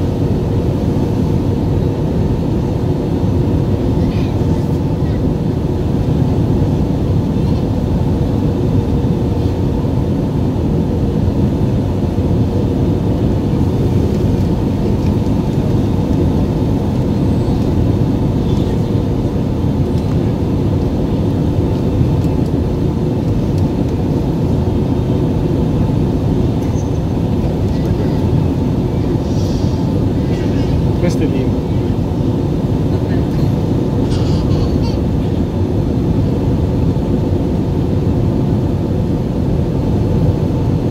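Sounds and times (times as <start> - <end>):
jet engine rumble in cabin: 0.0 - 40.9.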